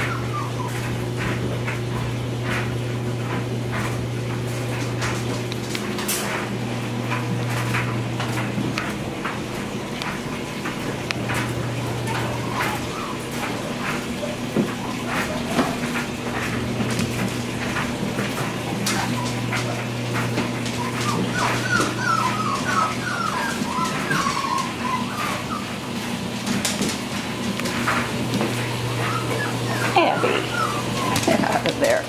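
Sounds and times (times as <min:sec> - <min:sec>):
puppy claws clicking on tiles: 0:00.0 - 0:32.0.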